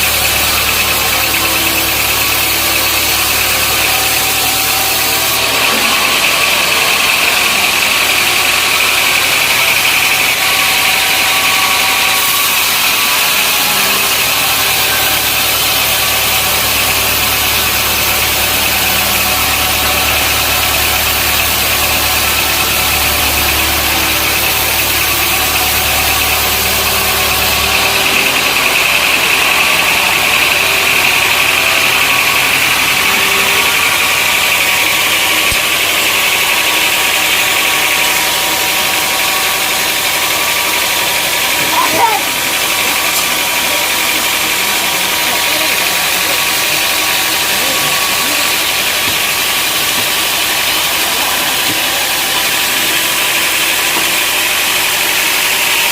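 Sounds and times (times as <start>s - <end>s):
saw cutting through wood: 0.0s - 55.9s.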